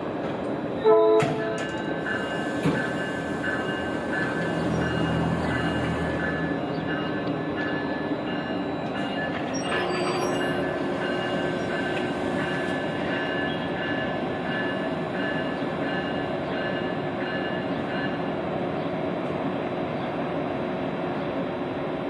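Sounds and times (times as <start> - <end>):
train wheels running noise: 0.0 - 18.2.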